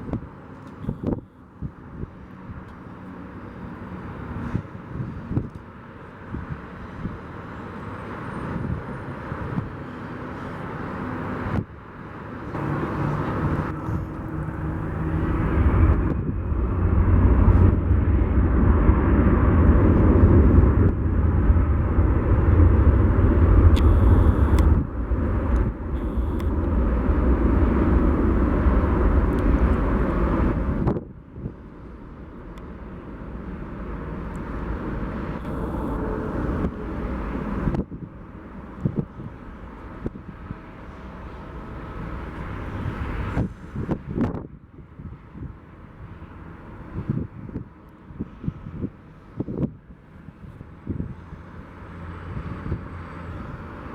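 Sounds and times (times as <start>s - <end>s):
airplane engines rumbling: 0.0s - 53.9s.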